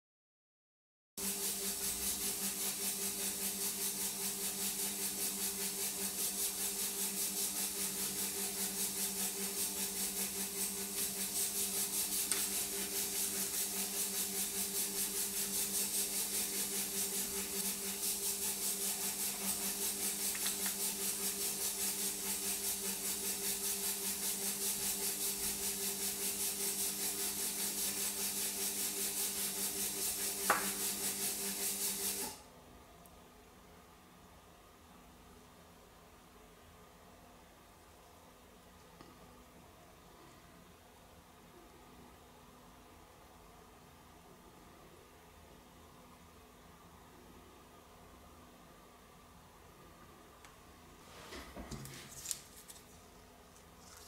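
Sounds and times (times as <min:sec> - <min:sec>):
steady background hum with hiss: 0:01.2 - 0:54.0.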